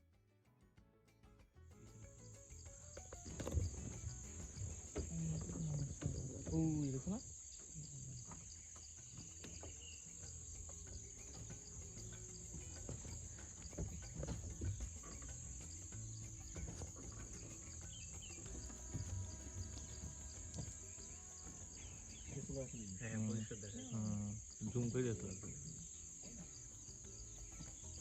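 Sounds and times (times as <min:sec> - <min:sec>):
insects droning: 0:01.8 - 0:28.0.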